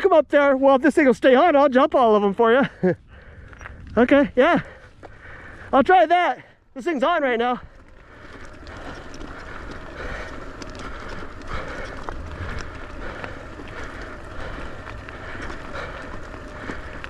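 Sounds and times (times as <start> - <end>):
tyres rumbling on dirt trail: 0.0 - 17.0
bike clicking and rattling: 2.6 - 17.0.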